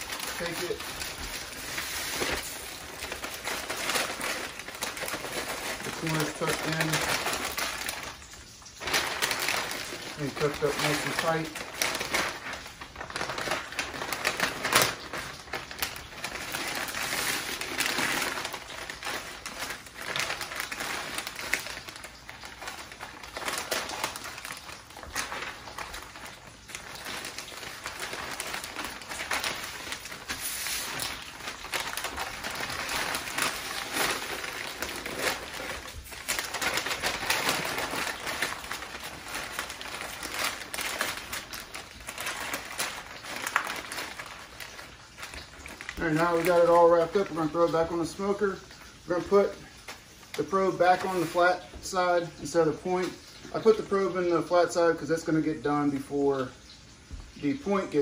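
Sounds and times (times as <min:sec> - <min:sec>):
stiff paper crinkling and rustling: 0:00.0 - 0:58.0.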